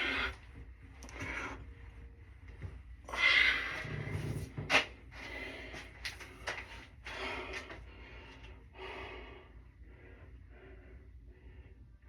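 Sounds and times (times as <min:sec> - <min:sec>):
person breathing hard: 0:00.0 - 0:01.8, 0:03.1 - 0:04.3, 0:05.1 - 0:12.0.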